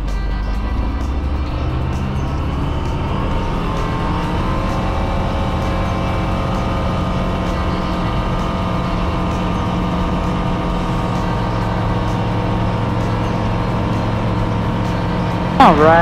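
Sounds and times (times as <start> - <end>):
aircraft engine and propeller: 0.0 - 16.0.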